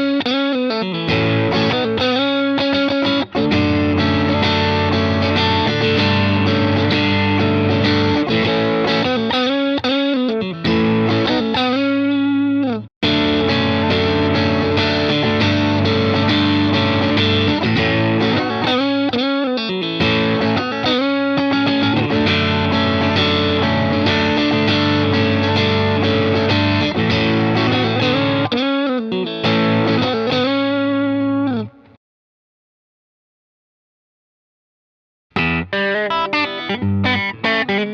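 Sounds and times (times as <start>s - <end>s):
overdriven electric guitar chords: 0.0s - 32.0s, 35.3s - 37.9s.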